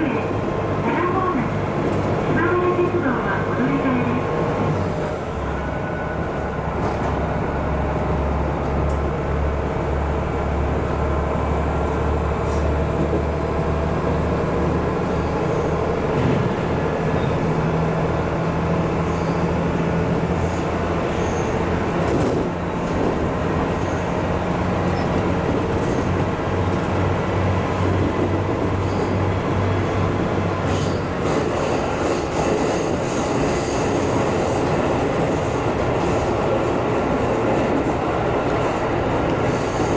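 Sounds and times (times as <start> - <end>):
wheels rumbling and clicking on rails: 0.0 - 39.9.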